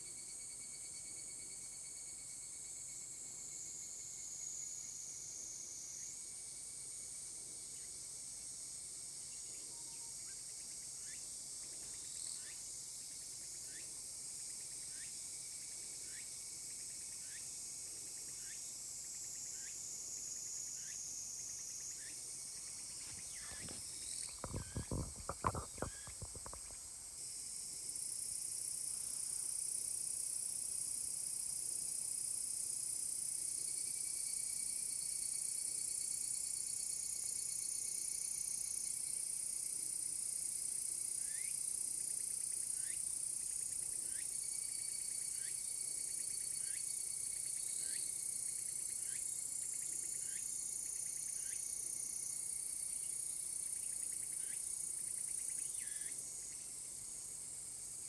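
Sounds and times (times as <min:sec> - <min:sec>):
cicadas singing: 0:00.6 - 0:57.6.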